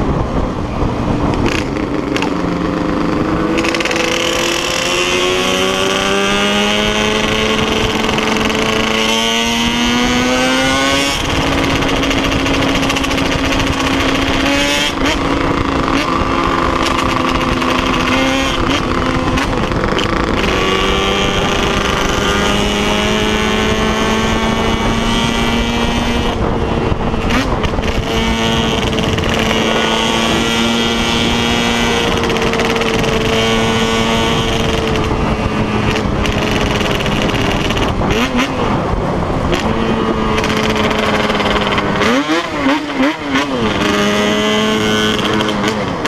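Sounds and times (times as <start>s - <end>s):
two-stroke motorcycle engine: 0.0s - 46.0s.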